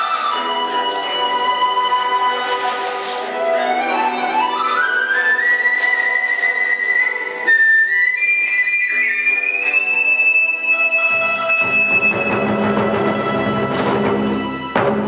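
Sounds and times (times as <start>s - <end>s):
bamboo flute high notes: 0.0s - 15.0s.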